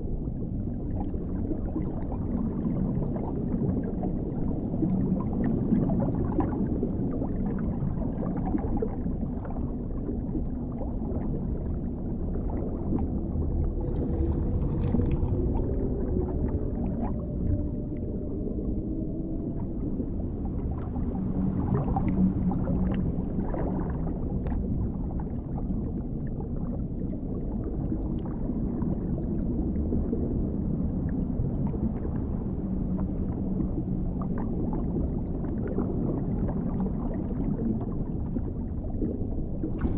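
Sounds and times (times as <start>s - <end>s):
deep rumble of water: 0.0s - 39.9s
faint wavering gliding tone: 0.0s - 39.9s.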